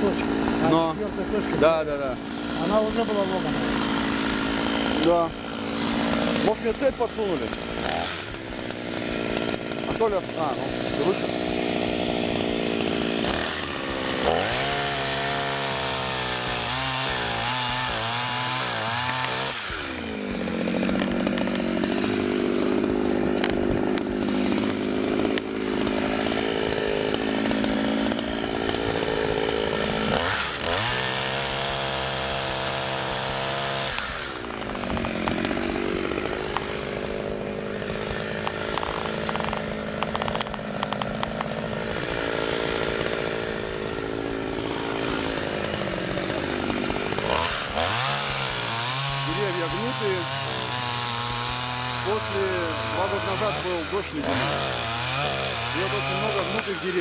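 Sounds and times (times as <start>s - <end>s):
chainsaw cutting wood: 0.0s - 57.0s
chainsaw idling: 0.0s - 57.0s.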